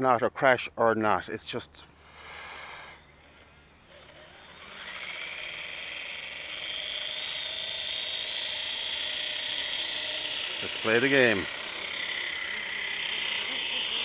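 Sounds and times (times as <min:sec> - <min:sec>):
helicopter motor whining: 0:01.9 - 0:14.0.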